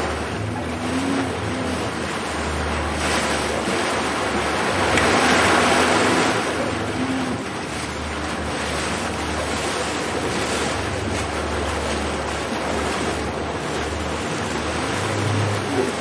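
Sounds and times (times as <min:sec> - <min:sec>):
water around a boat: 0:00.0 - 0:16.0.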